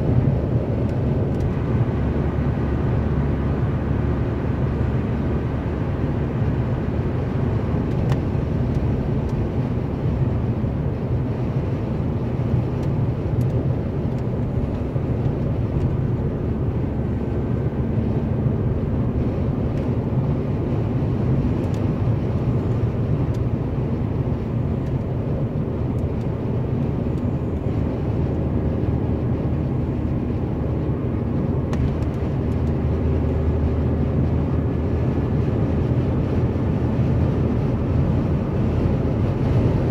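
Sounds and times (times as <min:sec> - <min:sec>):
low engine hum: 0:00.0 - 0:39.9
road and tyre noise: 0:00.0 - 0:39.9.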